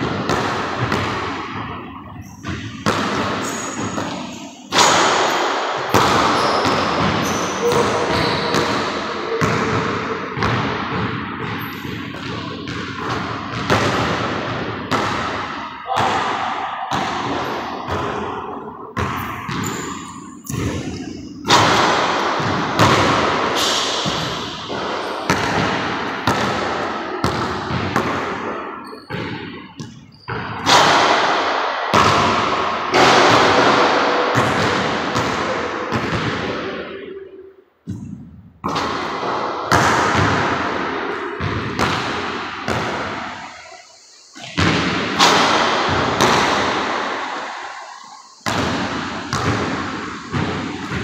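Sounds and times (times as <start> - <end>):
basketball bouncing on wooden floor: 0.0 - 31.2, 31.9 - 36.8, 37.9 - 43.3, 44.4 - 46.7, 48.4 - 51.0
ball striking backboard and rim: 0.0 - 36.9, 37.9 - 43.5, 44.4 - 47.7, 48.3 - 51.0.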